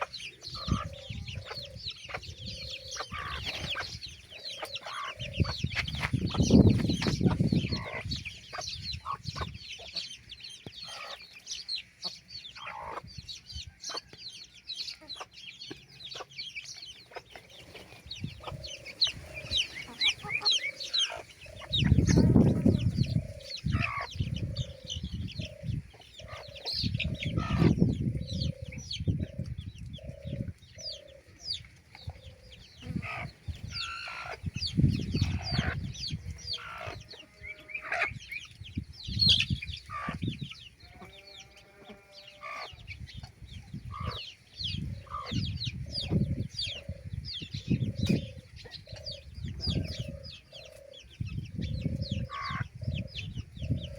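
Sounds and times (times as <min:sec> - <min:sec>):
chickens clucking: 0:00.0 - 0:53.9
chicks cheeping: 0:00.0 - 0:53.9.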